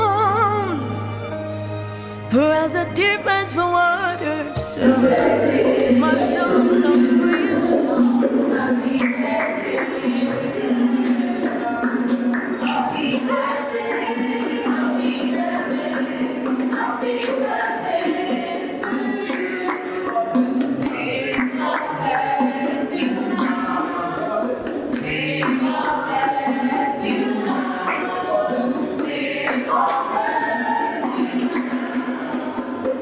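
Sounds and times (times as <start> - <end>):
choir singing: 0.0 - 33.0.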